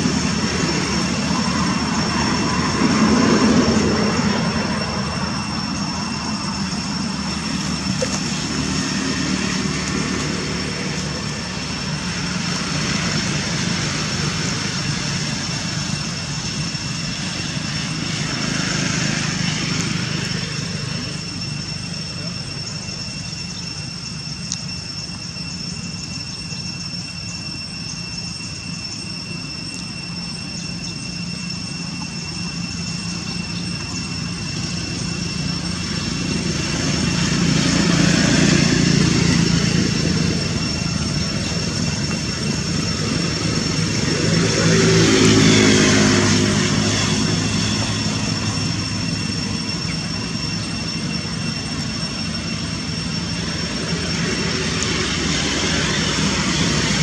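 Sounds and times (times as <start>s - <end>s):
engine drone: 0.0s - 57.0s
steady high whine: 0.0s - 57.0s.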